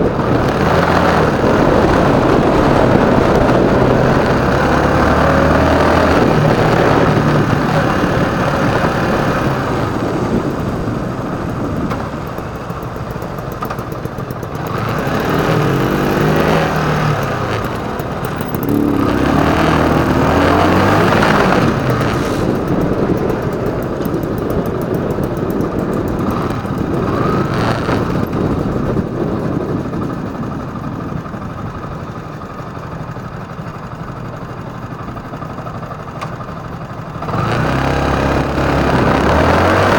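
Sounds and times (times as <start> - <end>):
rush of noise: 0.0 - 32.6
motorcycle engine accelerating: 0.0 - 39.9.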